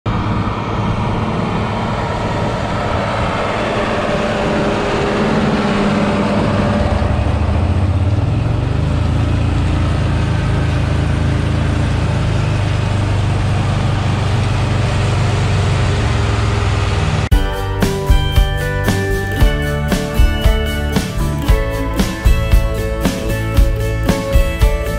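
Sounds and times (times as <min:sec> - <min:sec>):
tractor diesel engine running: 0:00.1 - 0:24.9.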